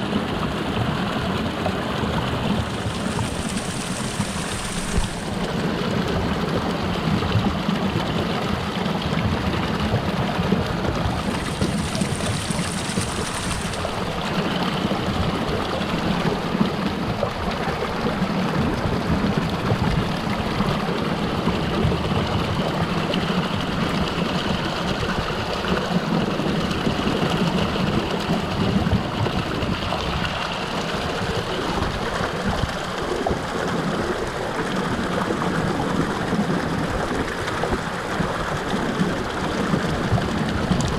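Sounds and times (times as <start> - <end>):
stream water rushing under ice: 0.0 - 40.9.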